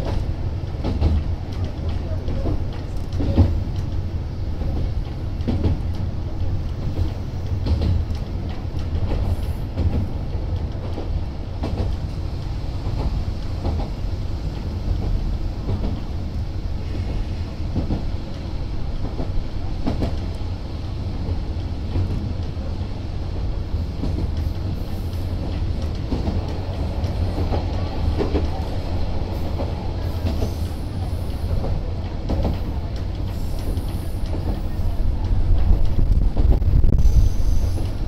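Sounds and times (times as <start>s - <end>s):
railcar engine rumble: 0.0s - 38.0s.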